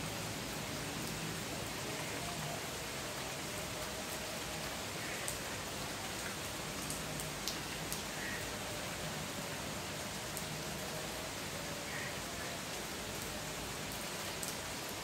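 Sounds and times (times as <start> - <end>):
rain on wet pavement: 0.0 - 15.0.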